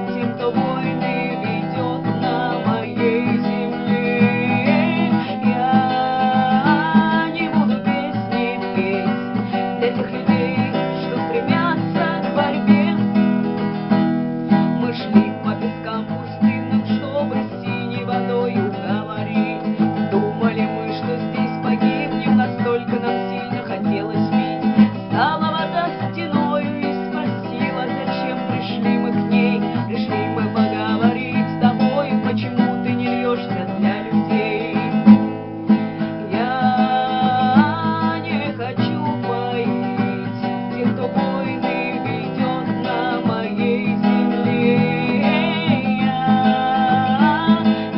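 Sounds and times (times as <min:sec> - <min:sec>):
strummed acoustic guitar: 0:00.0 - 0:47.9.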